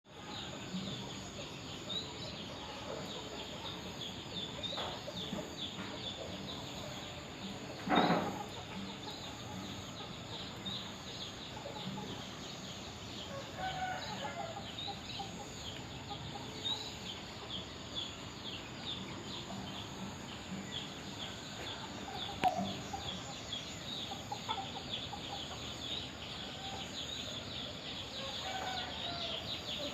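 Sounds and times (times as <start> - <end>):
chickens clucking: 0.4 - 29.9.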